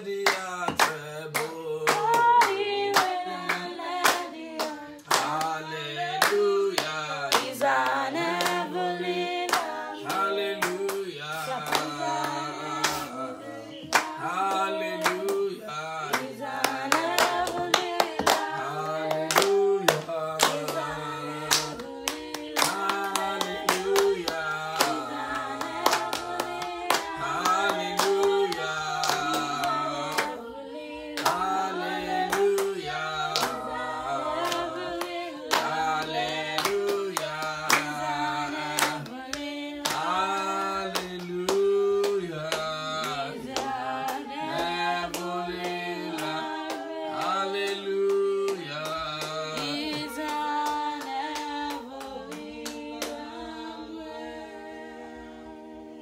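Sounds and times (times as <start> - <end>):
hands clapping in a steady beat: 0.0 - 55.0
person singing worship song: 0.0 - 56.0.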